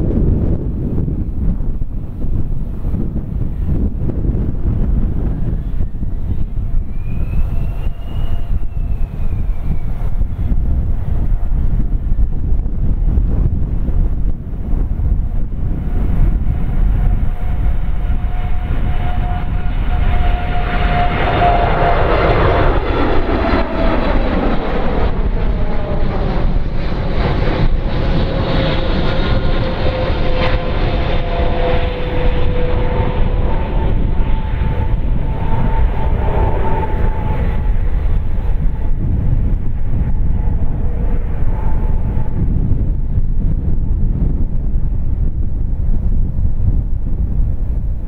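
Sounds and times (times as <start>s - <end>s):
jet engines at takeoff: 0.0s - 48.0s
jet whooshing overhead: 0.0s - 48.0s.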